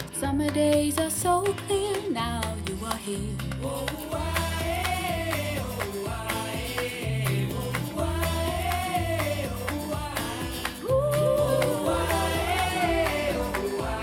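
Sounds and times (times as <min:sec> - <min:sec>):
pop song through small speakers: 0:00.0 - 0:14.0.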